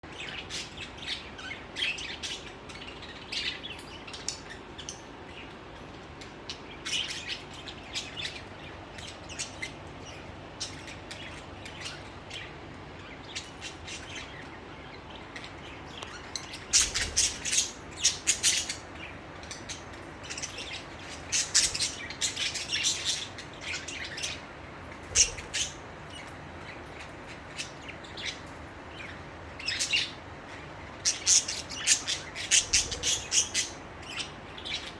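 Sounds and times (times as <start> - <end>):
budgerigars chirping and chattering: 0.1 - 34.9.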